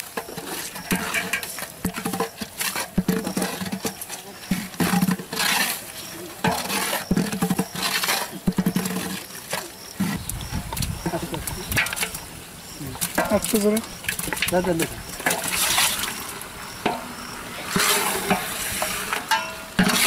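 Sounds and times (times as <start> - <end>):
metal ladle scraping a pot: 0.0 - 12.3, 13.0 - 20.0.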